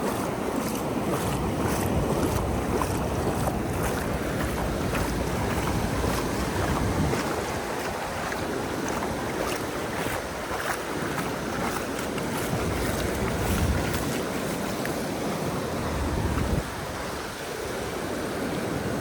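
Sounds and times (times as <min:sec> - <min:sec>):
wind buffeting microphone: 0:00.0 - 0:18.2
surf washing onto beach: 0:00.0 - 0:19.0.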